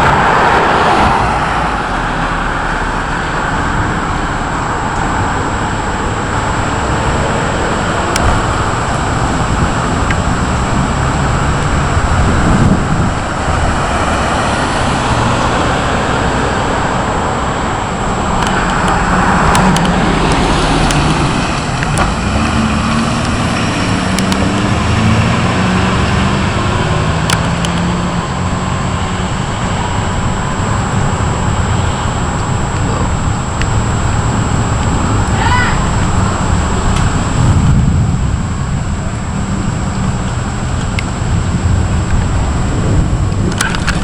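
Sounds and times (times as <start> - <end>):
low thunder rumble: 0.0 - 44.0
thunderstorm rushing noise: 0.0 - 44.0.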